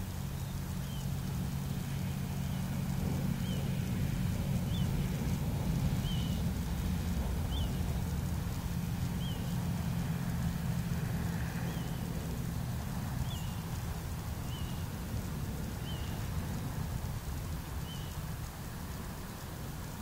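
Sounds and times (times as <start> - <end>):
light wind: 0.0 - 20.0
low engine hum: 0.0 - 20.0.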